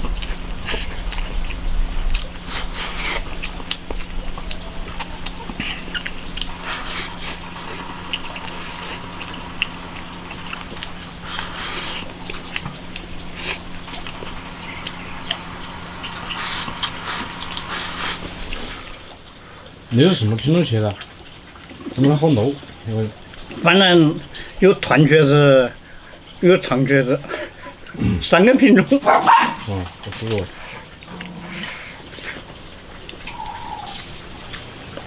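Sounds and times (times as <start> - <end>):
people chewing and slurping: 0.0 - 25.1, 25.8 - 35.0
steady low hum: 0.0 - 35.0.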